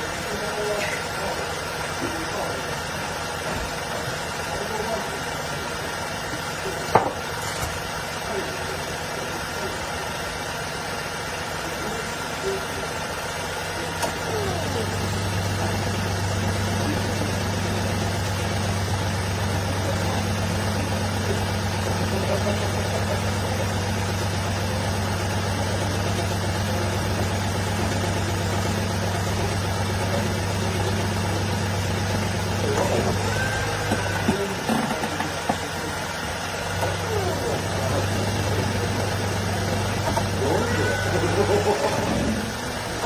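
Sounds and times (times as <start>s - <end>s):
engine idling hum: 0.0s - 43.0s.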